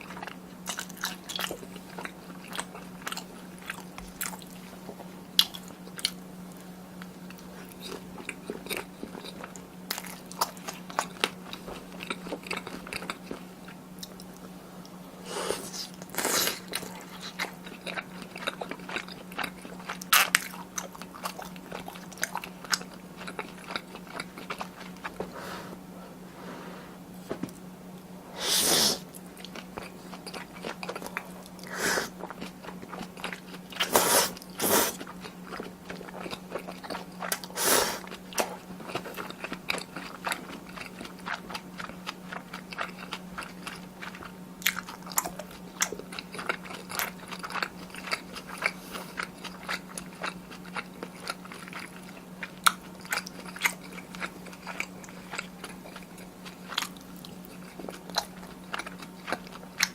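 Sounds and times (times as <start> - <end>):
chewing and mouth sounds: 0.0 - 25.3, 29.1 - 59.9
faint steady hum: 0.0 - 59.9.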